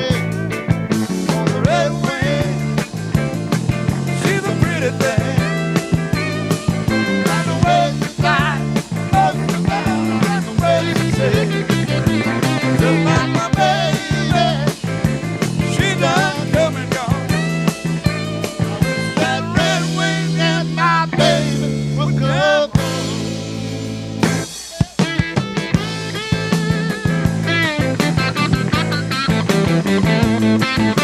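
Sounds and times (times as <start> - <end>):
lead guitar bent notes: 0.0 - 31.0
rock band playing: 0.0 - 31.0.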